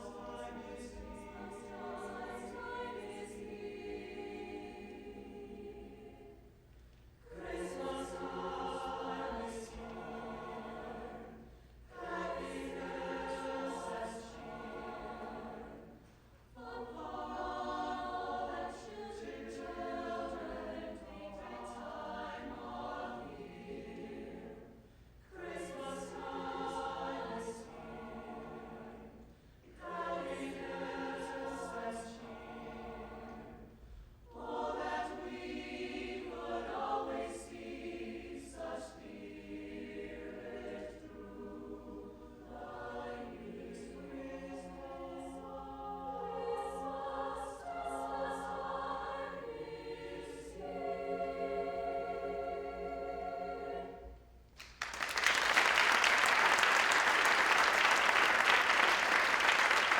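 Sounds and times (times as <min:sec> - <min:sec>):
choir singing: 0:00.0 - 0:06.6, 0:07.2 - 0:59.9.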